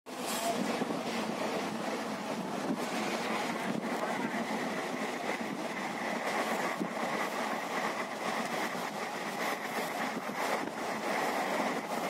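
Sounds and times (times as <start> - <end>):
rushing air: 0.1 - 12.0
train wheels rushing on rails: 0.1 - 12.0.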